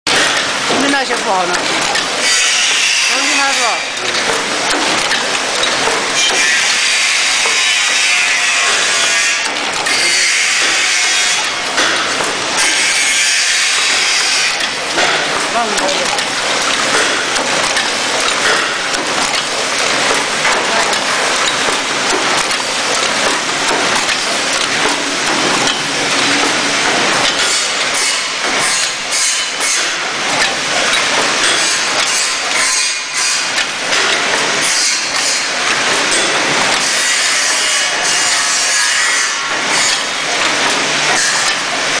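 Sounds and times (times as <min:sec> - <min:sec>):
machine clicks and knocks: 0:00.1 - 0:42.0
machine mechanical clatter: 0:00.1 - 0:42.0.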